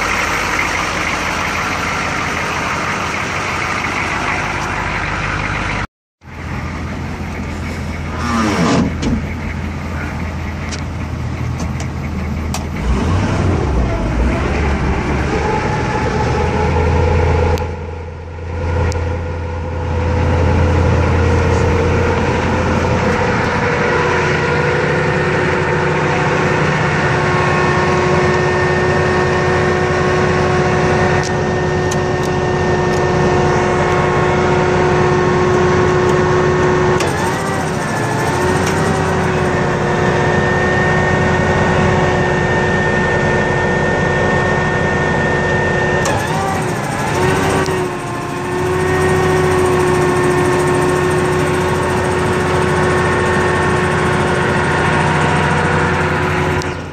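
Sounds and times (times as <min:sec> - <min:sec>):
diesel engine running: 0:00.0 - 0:56.9
generator whining tones: 0:00.0 - 0:56.9.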